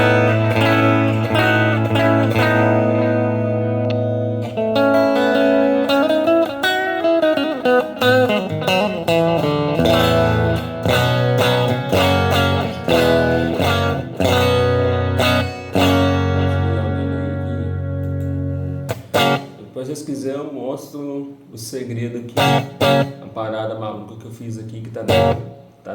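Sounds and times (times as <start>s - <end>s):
electric guitar chords and phrases: 0.0s - 19.8s, 22.3s - 23.4s, 25.0s - 25.8s.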